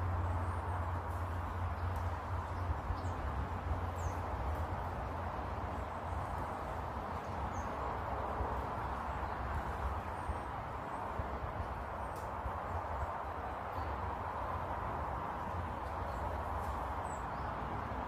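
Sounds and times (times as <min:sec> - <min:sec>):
garden ambience hiss and rumble: 0:00.0 - 0:18.0.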